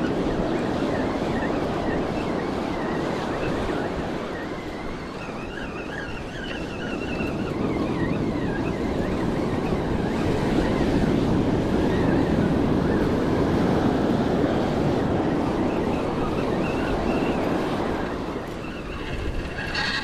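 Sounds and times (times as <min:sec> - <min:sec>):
ocean surf breaking on a beach: 0:00.0 - 0:20.0
wind buffeting the microphone: 0:00.0 - 0:20.0.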